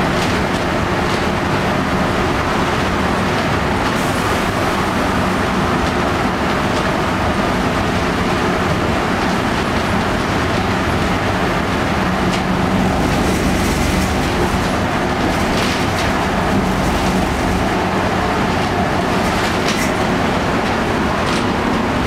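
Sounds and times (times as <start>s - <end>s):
bus diesel engine drone: 0.0s - 22.0s
road rumble: 0.0s - 22.0s.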